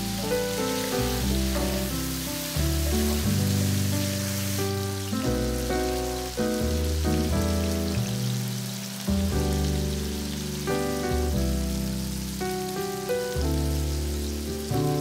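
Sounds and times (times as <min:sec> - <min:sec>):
background music chords: 0:00.0 - 0:15.0
chicken sizzling in frying pan: 0:00.0 - 0:15.0.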